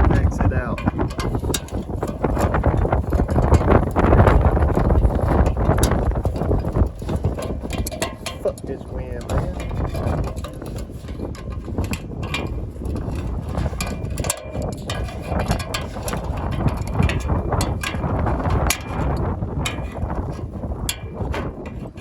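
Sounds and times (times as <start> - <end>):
wind buffeting microphone: 0.0 - 22.0
metal parts clanking: 0.6 - 20.2.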